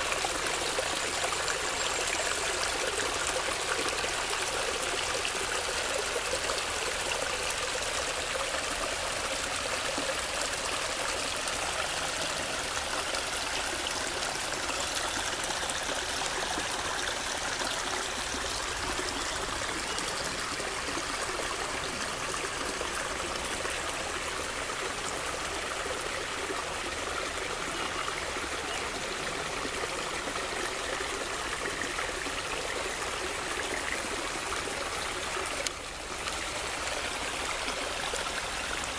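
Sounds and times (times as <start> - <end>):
brook running over stones: 0.0 - 38.9.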